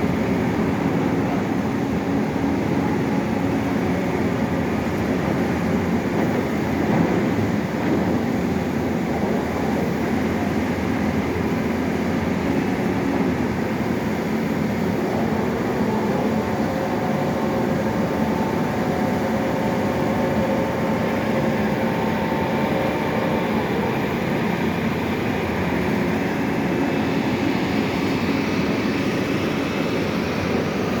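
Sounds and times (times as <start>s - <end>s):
drilling rig engine running: 0.0s - 31.0s.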